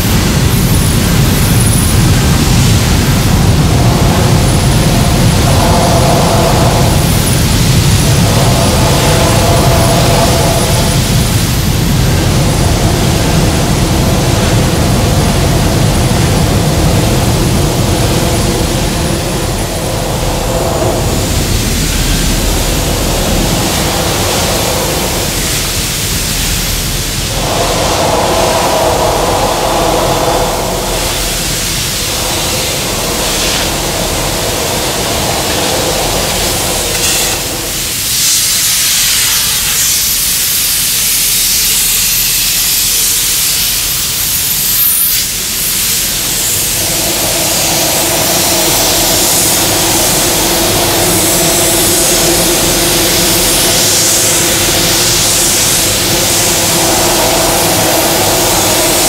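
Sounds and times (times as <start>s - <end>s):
continuous rushing hiss: 0.0s - 59.0s
mechanical drone: 0.0s - 59.0s.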